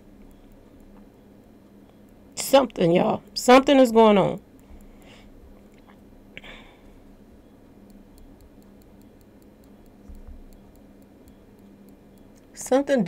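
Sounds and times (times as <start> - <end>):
faint regular ticking: 0.0 - 13.0
low steady hum: 0.0 - 13.0.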